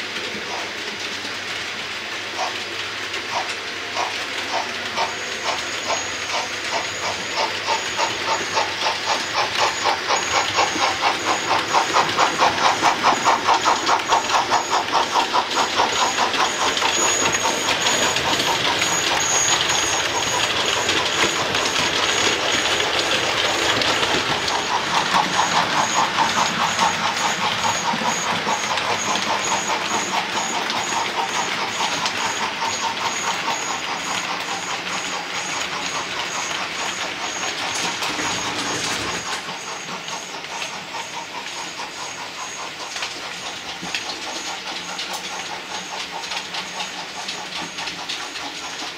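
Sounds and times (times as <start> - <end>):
model steam locomotive chuffing: 0.0 - 48.9
steam hiss: 0.4 - 48.9.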